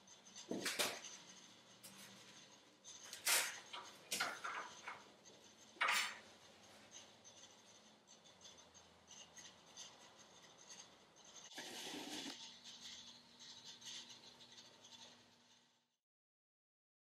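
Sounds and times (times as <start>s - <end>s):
metal scraping and rattling: 0.0s - 15.8s.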